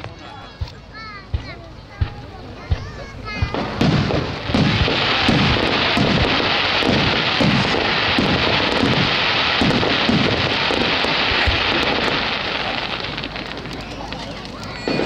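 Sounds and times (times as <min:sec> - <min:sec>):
firework shells booming: 0:00.0 - 0:15.0
fireworks crackling hiss: 0:00.0 - 0:15.0.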